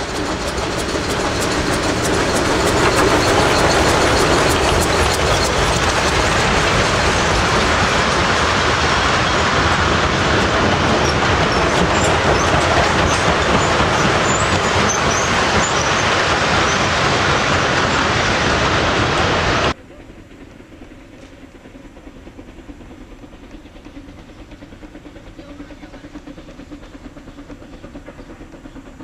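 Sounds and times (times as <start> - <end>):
train wheels clattering on track: 0.0 - 29.0.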